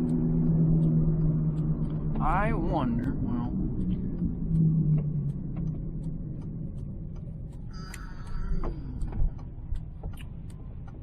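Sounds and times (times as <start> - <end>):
low hum: 0.0 - 11.0
road and drivetrain rumble in car: 0.0 - 11.0.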